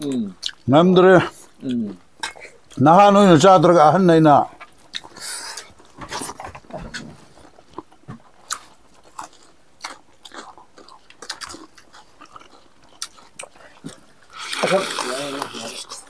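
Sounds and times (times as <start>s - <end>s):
man chewing meat: 0.2s - 0.7s, 1.3s - 2.8s, 4.5s - 16.0s.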